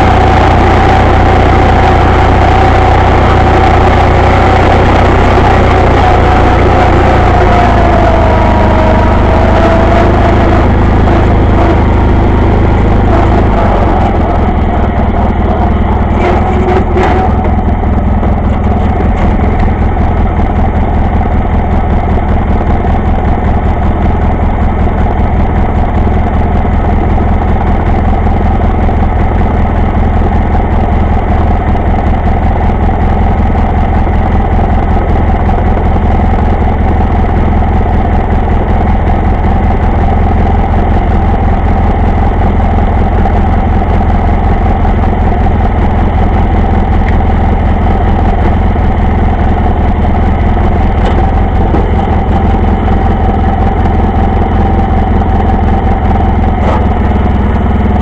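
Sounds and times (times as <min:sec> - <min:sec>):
lawn tractor engine idling: 0:00.0 - 0:58.0.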